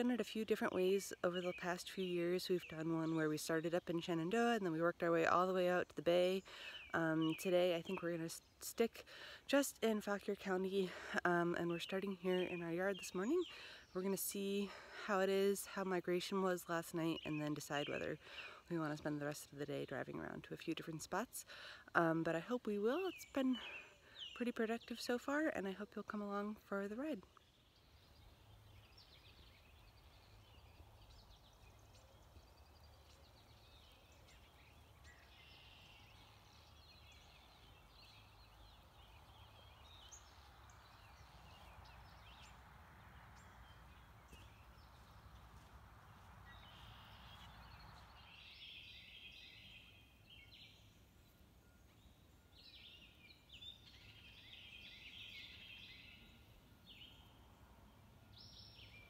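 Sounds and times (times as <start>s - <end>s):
songbirds calling and singing: 0.0s - 59.0s.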